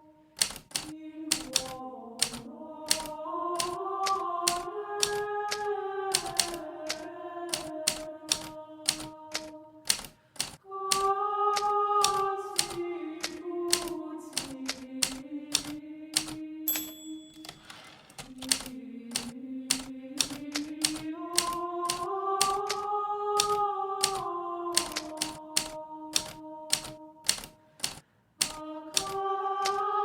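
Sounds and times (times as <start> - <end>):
typewriter typing: 0.4 - 22.8, 23.4 - 24.2, 24.8 - 29.8.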